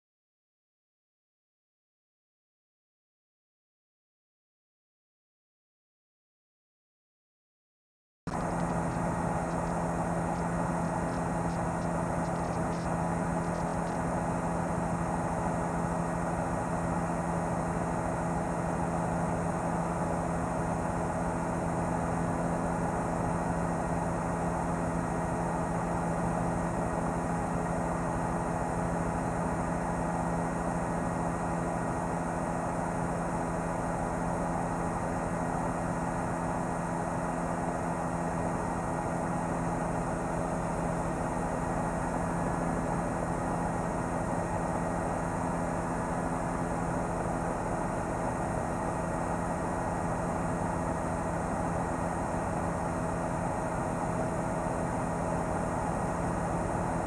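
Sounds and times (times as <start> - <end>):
helicopter engine and rotor drone: 8.3 - 57.0.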